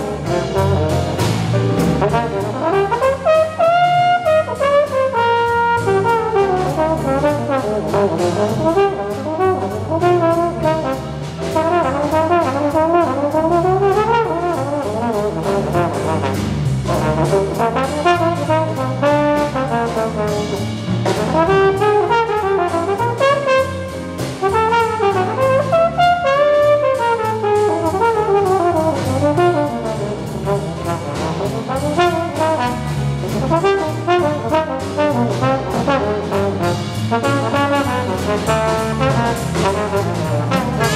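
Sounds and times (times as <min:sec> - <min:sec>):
band rhythm section: 0:00.0 - 0:40.9
drum kit cymbals: 0:00.0 - 0:40.9
trombone jazz solo: 0:00.0 - 0:40.9.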